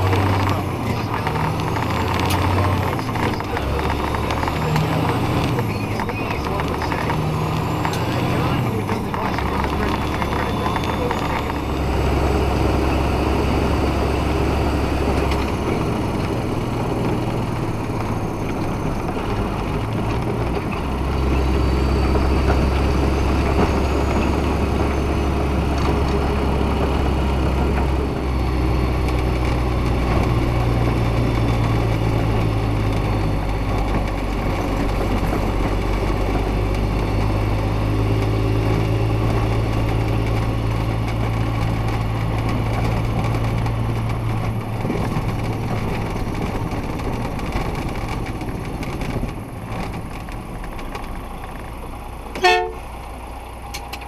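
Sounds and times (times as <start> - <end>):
diesel truck engine running: 0.0 - 54.0
plow blade scraping road: 0.0 - 54.0.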